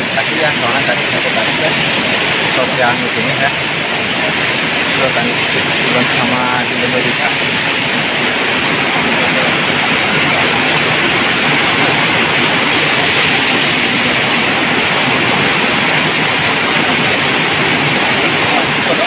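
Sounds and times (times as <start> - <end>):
loud steady hiss: 0.0 - 19.0.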